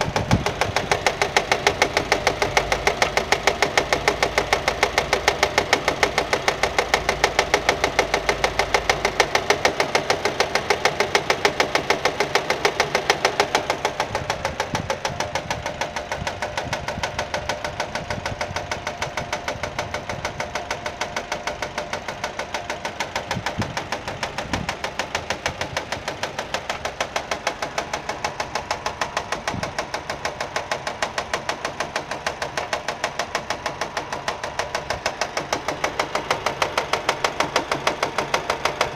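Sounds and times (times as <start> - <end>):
car engine idling: 0.0 - 38.9
fast even ticking knock: 0.0 - 38.9.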